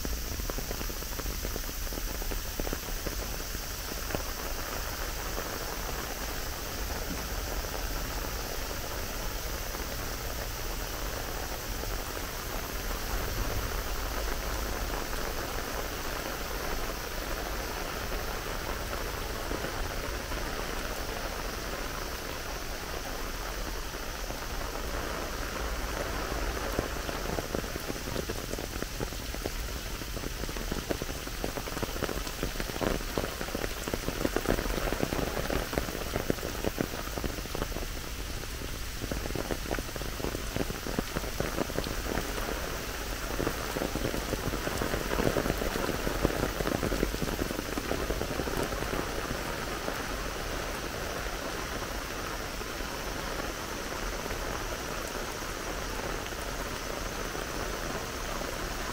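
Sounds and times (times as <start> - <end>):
raindrops ticking close by: 0.0 - 58.9
steady rain falling: 0.0 - 58.9.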